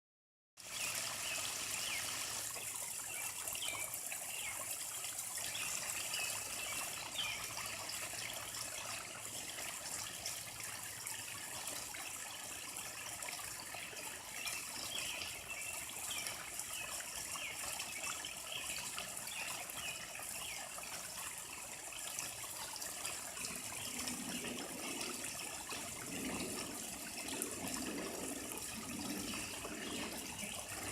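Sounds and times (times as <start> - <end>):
pond water trickling and splashing: 0.6 - 30.9.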